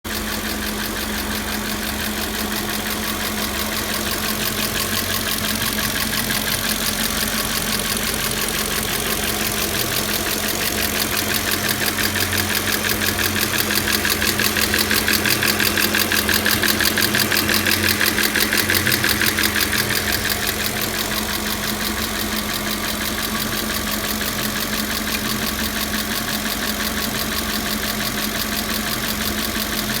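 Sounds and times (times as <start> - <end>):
car engine running: 0.0 - 30.0
rapid engine ticking: 0.0 - 30.0.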